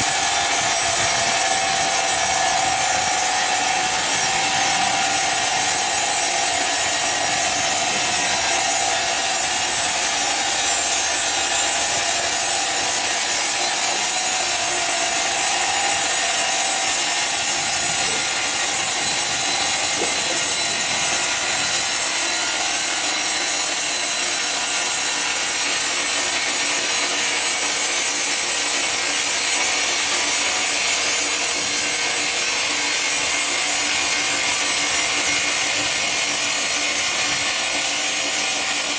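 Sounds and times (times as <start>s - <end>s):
power saw rasping through wood: 0.0s - 38.9s.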